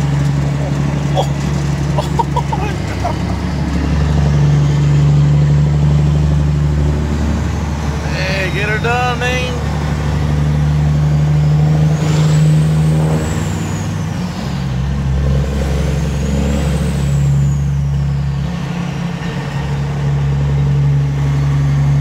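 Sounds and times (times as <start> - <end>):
diesel truck exhaust drone: 0.0 - 22.0.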